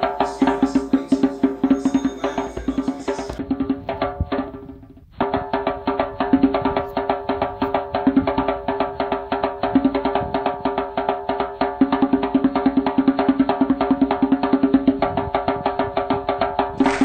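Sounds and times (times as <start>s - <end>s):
music with fast percussion beat: 0.0s - 17.0s.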